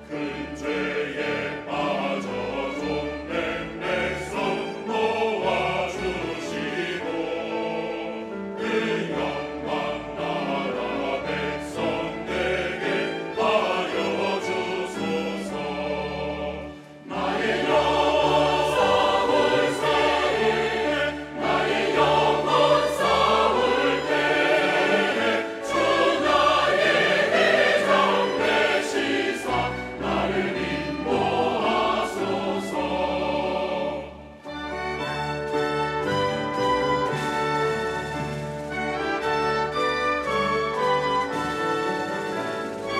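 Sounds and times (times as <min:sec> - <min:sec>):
choir singing a hymn: 0:00.0 - 0:42.9
orchestral accompaniment: 0:00.0 - 0:42.9.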